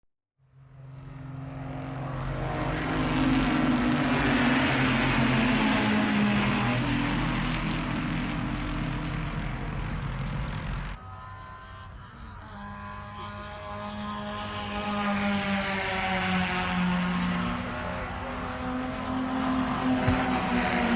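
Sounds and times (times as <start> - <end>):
race car engines: 0.5 - 20.9.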